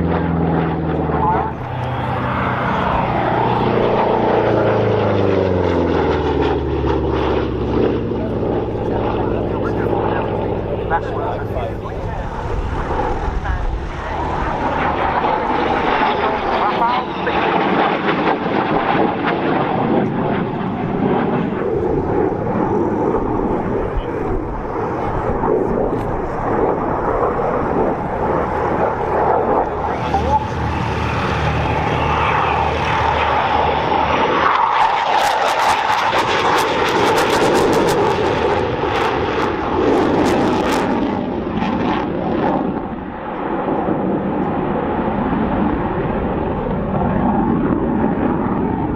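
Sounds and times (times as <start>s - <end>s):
fighter jet engine noise: 0.0s - 48.9s.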